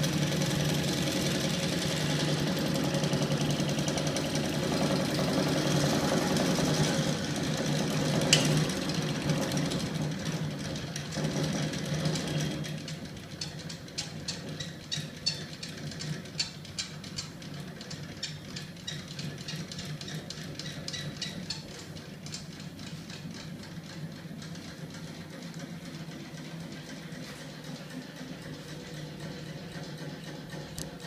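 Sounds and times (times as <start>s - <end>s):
motor steady low hum: 0.0s - 31.0s
rapid irregular ticking: 0.0s - 31.0s.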